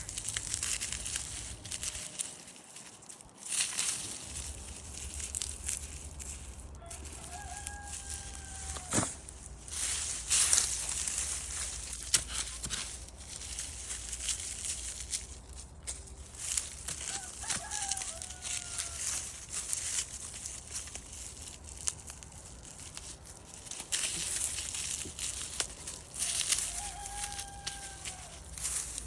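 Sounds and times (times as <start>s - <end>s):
rustling handling noise: 0.0s - 29.0s.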